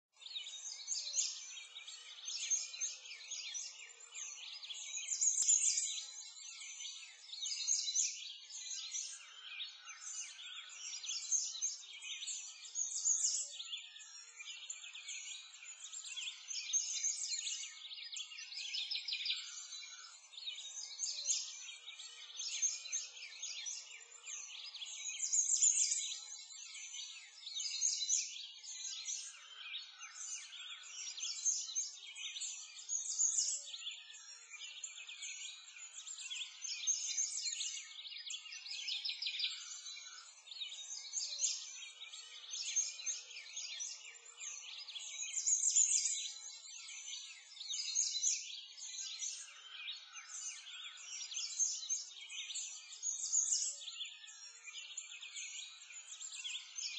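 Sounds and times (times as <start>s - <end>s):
many small birds chirping: 0.0s - 56.9s.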